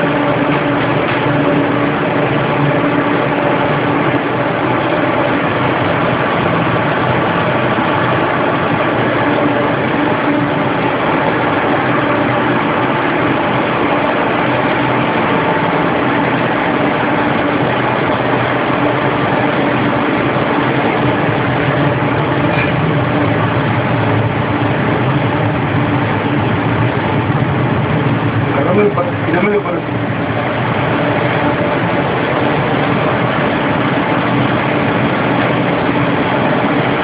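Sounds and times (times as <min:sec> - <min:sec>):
machinery drone: 0:00.0 - 0:37.0.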